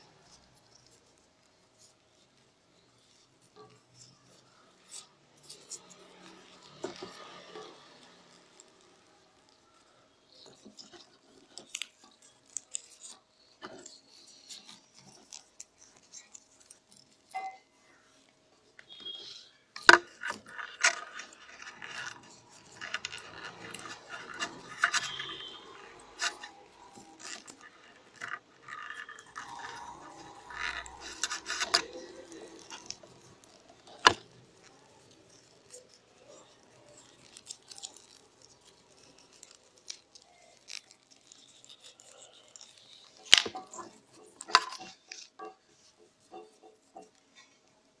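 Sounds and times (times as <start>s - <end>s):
paper tubes rustling and scraping: 0.0s - 48.0s.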